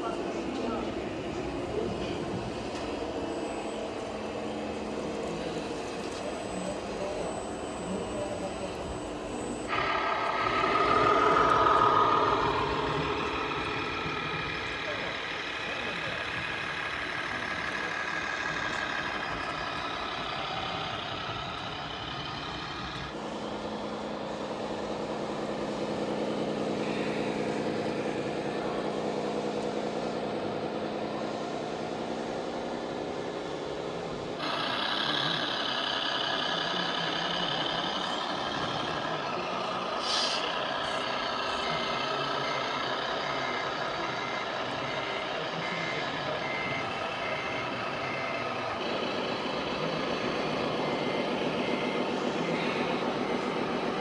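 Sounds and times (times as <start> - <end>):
simulated diesel engine sound: 0.0 - 54.0
reversing beeper: 0.1 - 31.9, 34.4 - 54.0.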